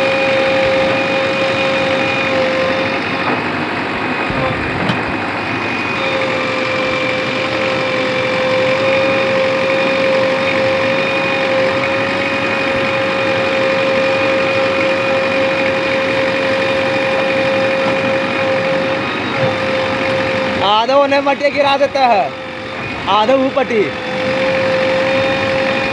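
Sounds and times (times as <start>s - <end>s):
diesel engine running: 0.0s - 25.9s
steady high whine: 0.0s - 25.9s.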